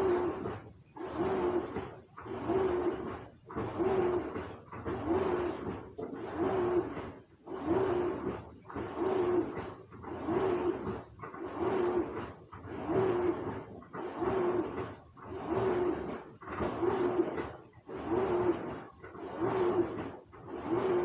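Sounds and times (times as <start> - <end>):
washing machine motor hum: 0.0 - 21.0
washing machine water sloshing: 0.0 - 21.0.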